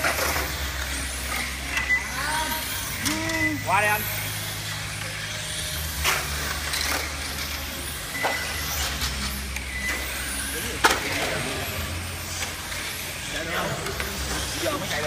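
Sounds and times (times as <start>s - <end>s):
model car motors whining: 0.0s - 15.0s.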